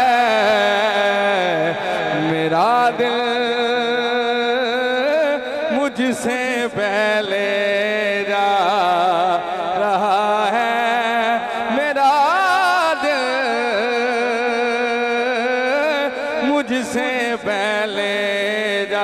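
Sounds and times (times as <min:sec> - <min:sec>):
man singing melismatic notes: 0:00.0 - 0:19.0.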